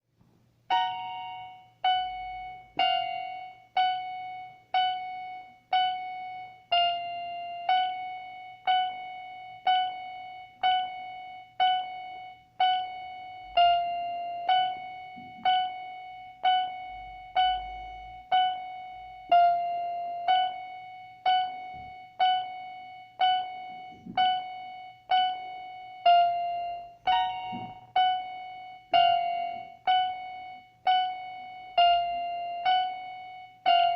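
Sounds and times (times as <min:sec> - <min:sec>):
electronic keyboard single notes: 0:00.5 - 0:33.9.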